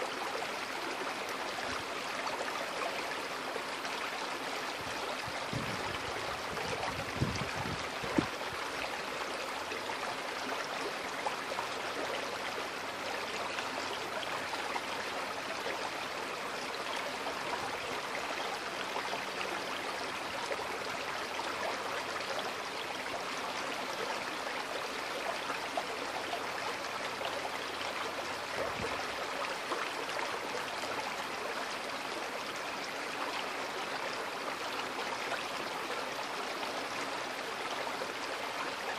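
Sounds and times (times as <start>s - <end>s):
creek water babbling over stones: 0.0s - 38.9s.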